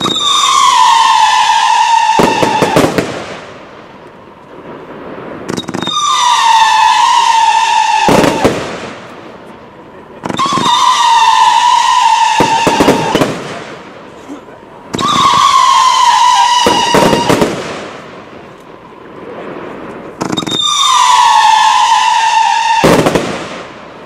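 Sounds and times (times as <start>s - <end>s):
fireworks popping and crackling: 0.0s - 24.0s
fireworks whistling: 0.0s - 24.0s.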